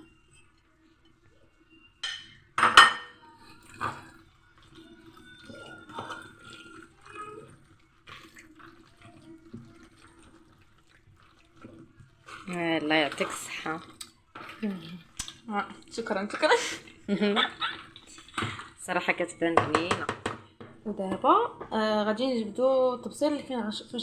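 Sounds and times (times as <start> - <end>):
dishes and utensils clattering: 0.0 - 22.4
liquid sounds: 0.0 - 24.0.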